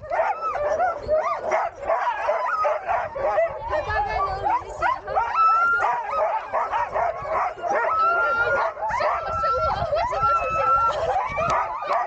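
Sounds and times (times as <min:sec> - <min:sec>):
dogs yipping and whining: 0:00.0 - 0:12.0
long dog howls: 0:00.0 - 0:12.0.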